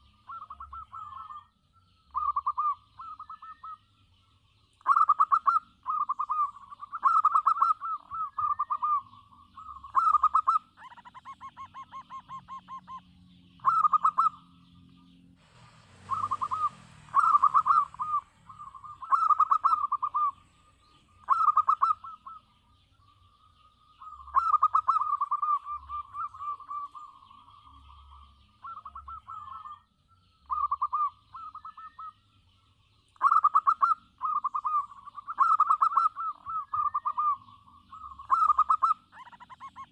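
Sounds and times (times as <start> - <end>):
dove cooing: 0.0 - 1.5, 2.1 - 3.9, 4.8 - 14.8, 15.5 - 22.6, 23.5 - 32.2, 33.2 - 39.9.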